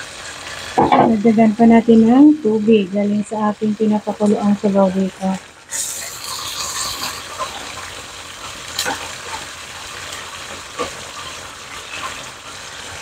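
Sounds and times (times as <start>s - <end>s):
sauce sizzling in a wok: 0.0s - 13.0s.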